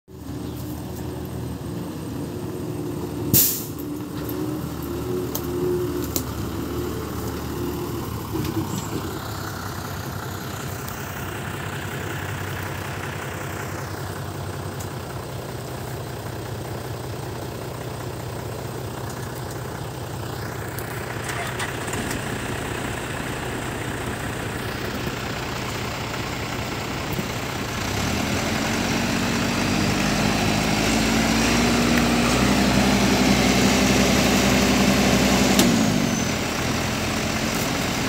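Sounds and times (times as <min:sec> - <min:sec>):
diesel engine running: 0:00.1 - 0:38.0.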